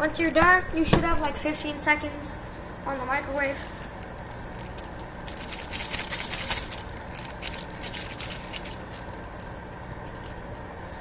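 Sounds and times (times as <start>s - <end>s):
microwave humming: 0.0s - 11.0s.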